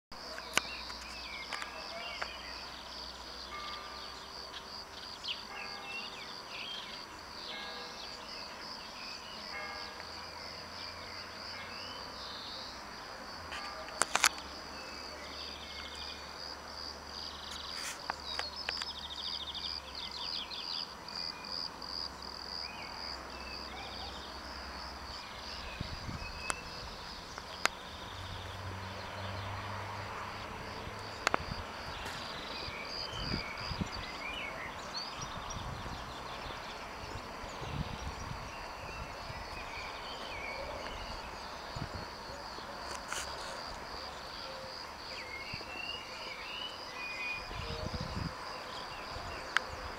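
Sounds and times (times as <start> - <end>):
insects chirping: 0.2 - 49.9.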